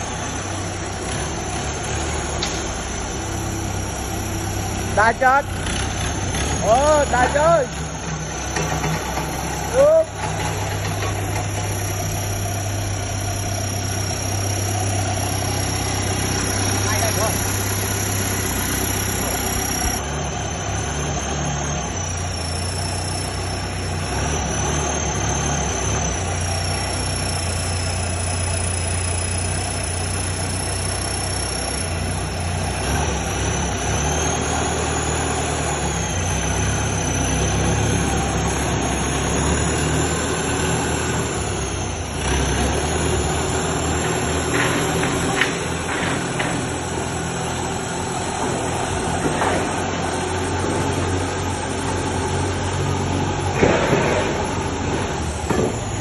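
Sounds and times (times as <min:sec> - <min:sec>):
high whine: 0:00.0 - 0:56.0
truck engine idling: 0:00.0 - 0:56.0.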